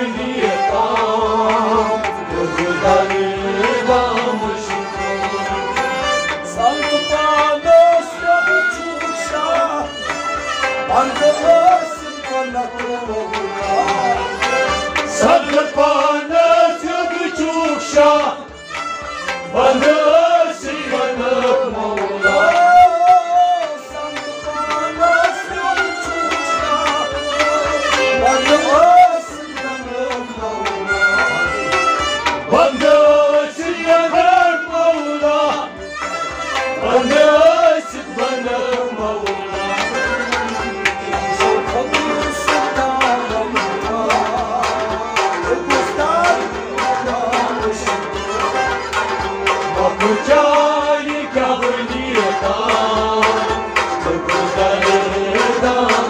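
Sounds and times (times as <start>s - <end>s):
gliding folk melody: 0.0s - 56.0s
hand drum beat: 0.1s - 56.0s.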